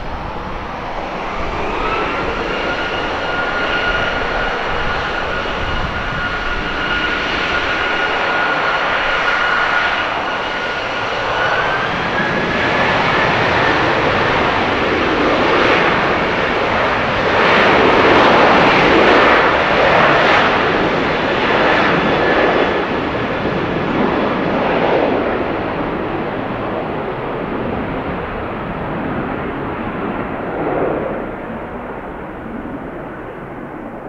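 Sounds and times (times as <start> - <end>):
jet engines rushing: 0.0 - 34.0.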